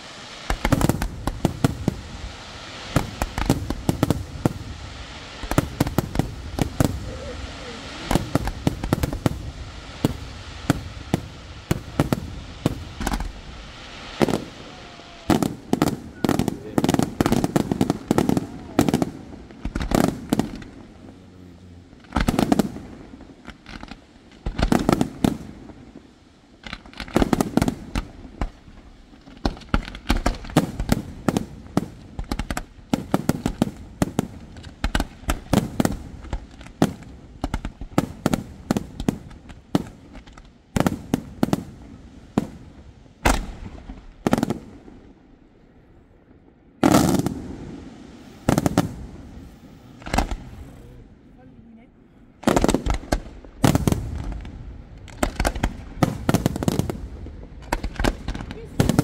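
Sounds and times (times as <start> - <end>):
fireworks bursts and bangs: 0.0 - 59.0.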